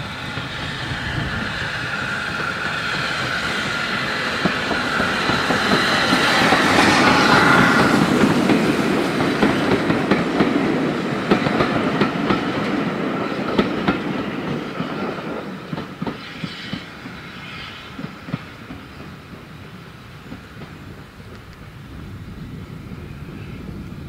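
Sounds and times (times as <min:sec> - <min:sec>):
train wheels clicking over rail joints: 0:00.0 - 0:21.7.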